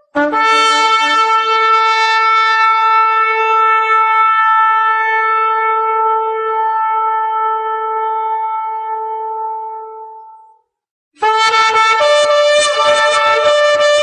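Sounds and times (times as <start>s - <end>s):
shofar long held note: 0.0s - 10.4s, 11.2s - 14.0s.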